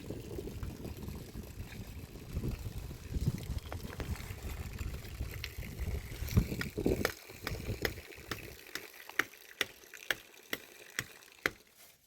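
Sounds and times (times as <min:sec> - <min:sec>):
water dripping: 0:00.1 - 0:11.7.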